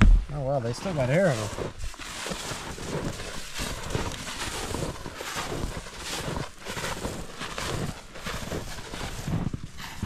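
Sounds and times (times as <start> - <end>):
footsteps through deep snow: 0.2 - 10.0
wind noise on microphone: 1.3 - 10.0.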